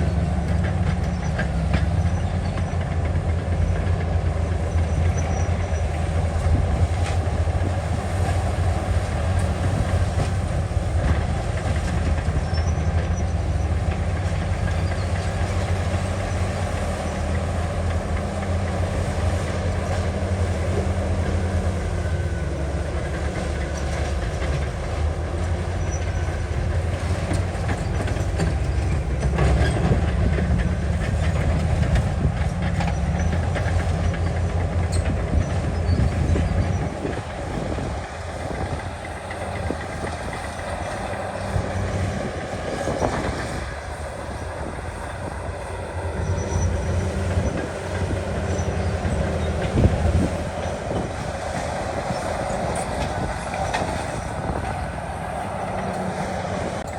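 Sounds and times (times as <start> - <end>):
bulldozer diesel engine: 0.0 - 56.9
tracks clanking: 0.0 - 56.9.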